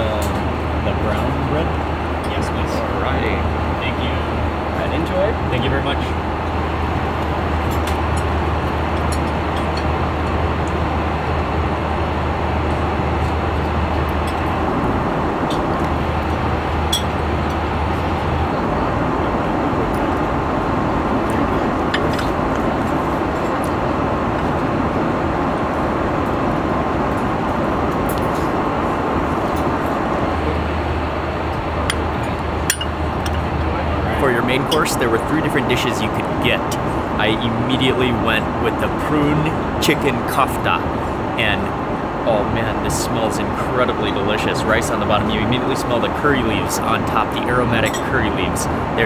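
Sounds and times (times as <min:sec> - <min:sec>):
airliner cabin air rush: 0:00.0 - 0:49.0
engine drone: 0:00.0 - 0:49.0.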